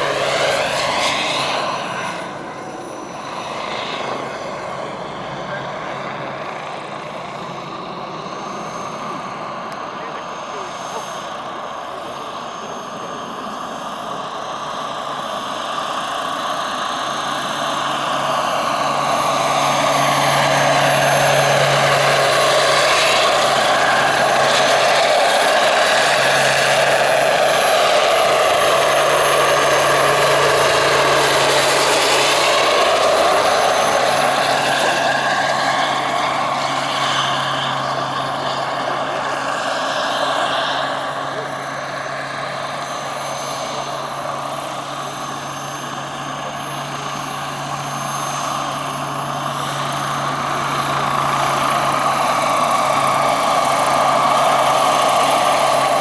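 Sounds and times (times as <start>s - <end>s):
model helicopter flying past: 0.0s - 56.0s.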